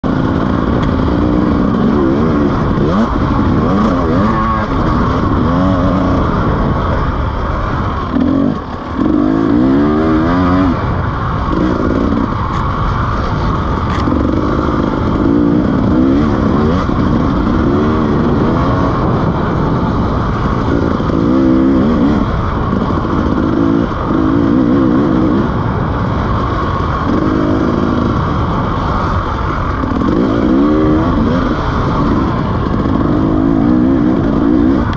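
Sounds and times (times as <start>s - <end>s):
two-stroke motorcycle engine revving: 0.0s - 34.9s.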